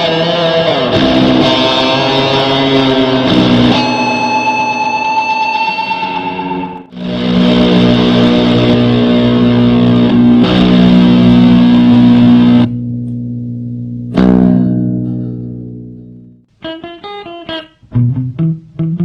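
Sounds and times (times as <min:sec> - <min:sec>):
fuzzed electric guitar chords: 0:00.0 - 0:19.0.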